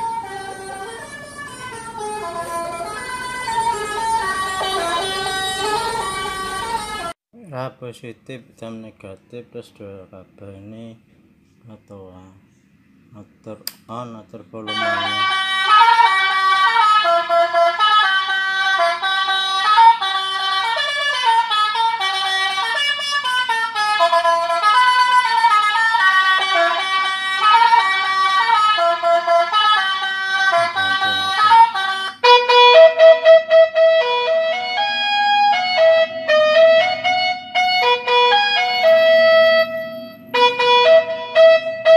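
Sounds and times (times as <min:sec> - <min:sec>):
electronic bus horn melody: 0:00.0 - 0:07.2, 0:14.6 - 0:41.9.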